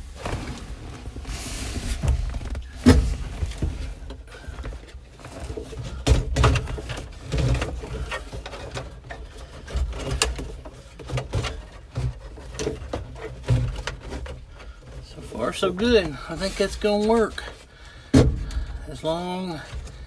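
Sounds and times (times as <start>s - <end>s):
duct hose knocking and rustling: 0.0s - 20.0s.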